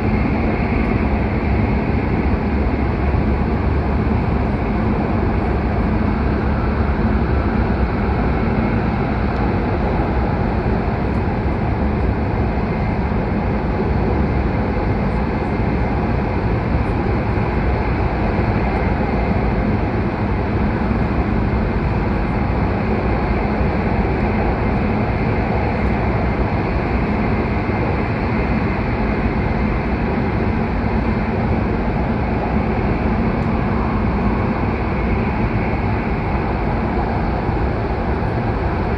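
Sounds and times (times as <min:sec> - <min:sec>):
train rumbling in a tunnel: 0:00.0 - 0:38.9.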